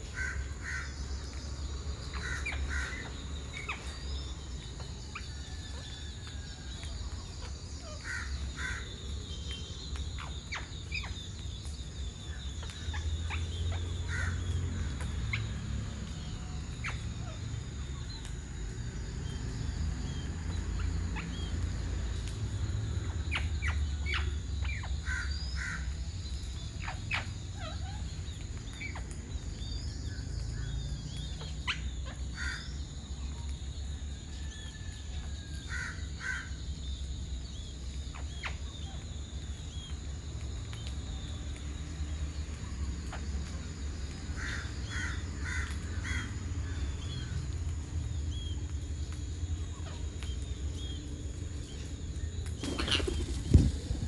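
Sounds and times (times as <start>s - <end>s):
birds calling: 0.0s - 18.4s, 22.9s - 33.3s, 34.7s - 41.7s, 42.4s - 54.0s.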